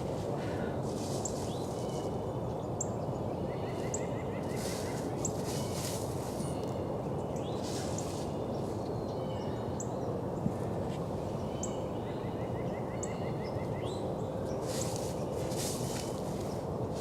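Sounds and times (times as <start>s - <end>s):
songbird chirps: 0.0s - 17.0s.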